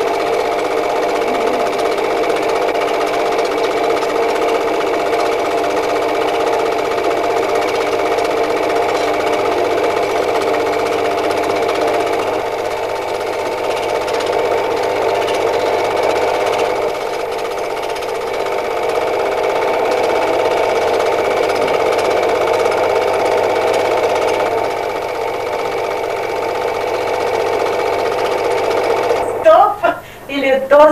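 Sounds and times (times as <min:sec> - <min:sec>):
film projector clattering: 0:00.0 - 0:29.9.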